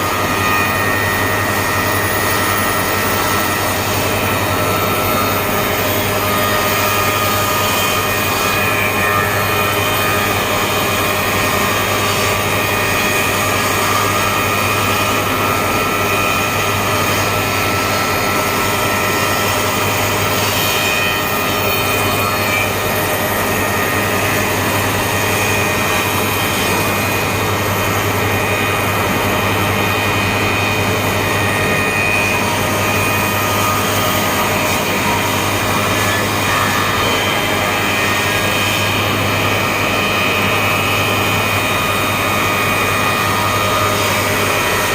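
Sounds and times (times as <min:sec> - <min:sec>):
wood moulding machine hum and whine: 0:00.0 - 0:44.9.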